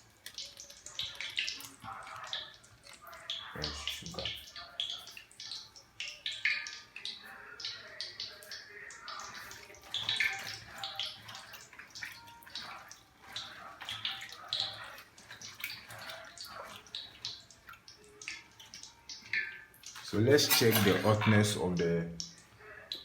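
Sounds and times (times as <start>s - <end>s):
yam pieces being tossed and mixed: 0.0s - 21.9s.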